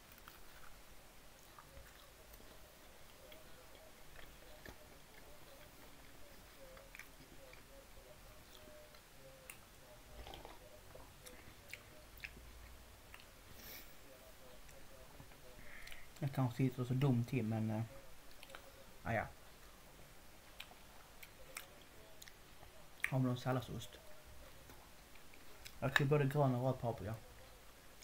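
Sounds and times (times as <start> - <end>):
faint close-up chewing: 0.0 - 28.0.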